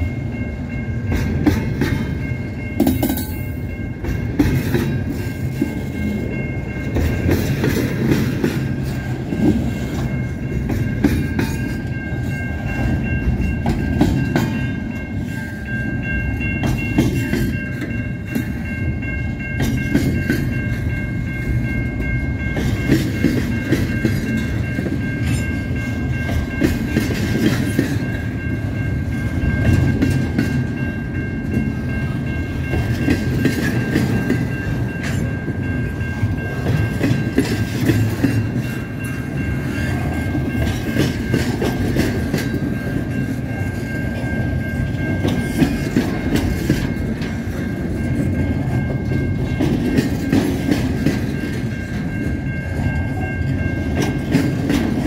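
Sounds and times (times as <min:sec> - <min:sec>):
train wheels clicking on rails: 0:00.0 - 0:55.0.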